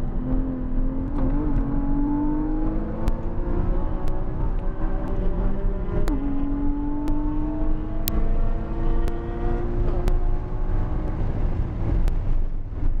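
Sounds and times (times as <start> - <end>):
road and wind rumble: 0.0 - 13.0.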